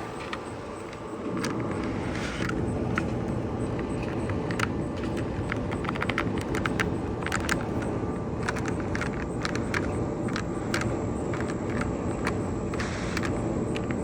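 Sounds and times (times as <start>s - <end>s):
air blowing from dryer vent: 0.0s - 14.0s
light clicks and rattles: 0.1s - 14.0s.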